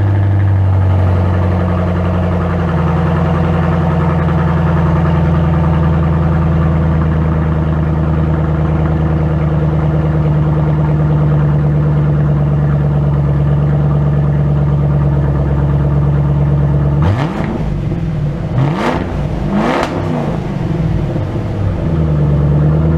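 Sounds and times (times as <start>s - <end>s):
car engine idling and revving: 0.0s - 22.9s.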